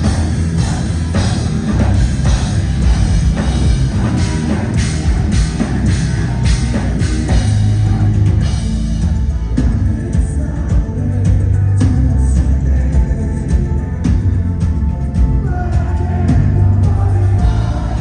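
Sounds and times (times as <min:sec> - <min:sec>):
distorted guitars: 0:00.0 - 0:18.0
heavy metal band playing live: 0:00.0 - 0:18.0
loud drum kit: 0:00.0 - 0:18.0.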